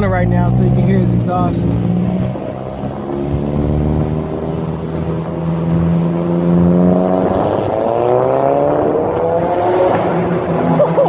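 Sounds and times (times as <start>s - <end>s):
car exhaust echoing in tunnel: 1.0s - 11.0s.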